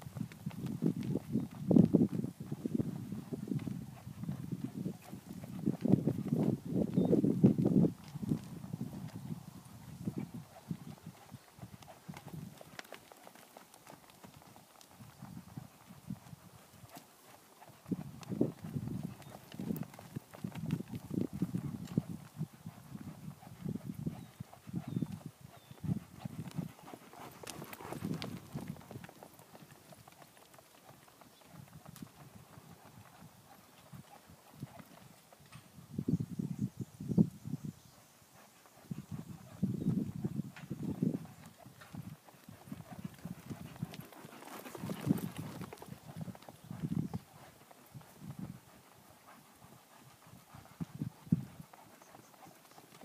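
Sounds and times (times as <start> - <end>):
muffled hoofbeats on sand: 0.0 - 53.0.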